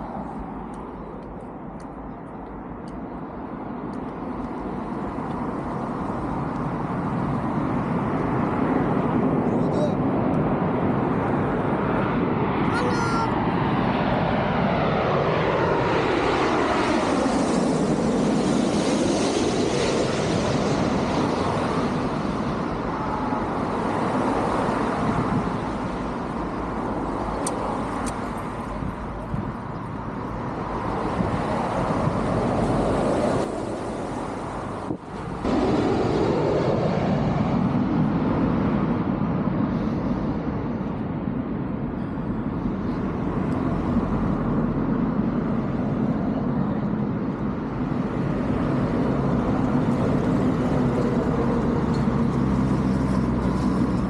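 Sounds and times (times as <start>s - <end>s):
jet and road traffic noise: 0.0s - 54.0s
jet engine whine overhead: 0.0s - 54.0s.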